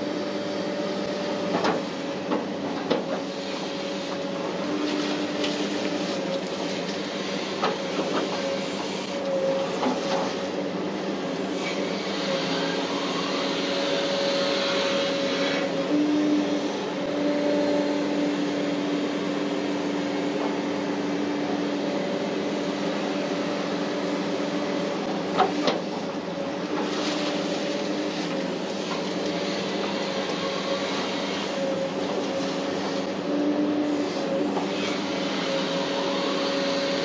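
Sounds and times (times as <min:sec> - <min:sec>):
excavator engine droning: 0:00.0 - 0:37.0.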